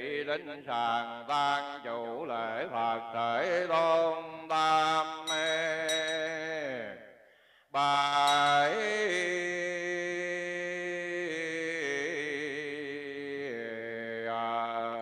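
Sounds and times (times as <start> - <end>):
man chanting: 0.0 - 7.0, 7.8 - 15.0.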